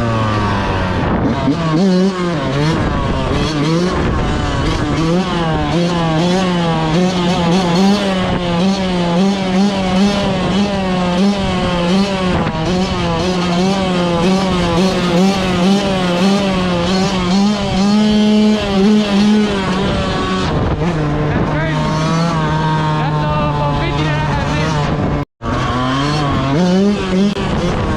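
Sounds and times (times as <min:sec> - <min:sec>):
two-stroke dirt bike revving: 0:00.0 - 0:27.9.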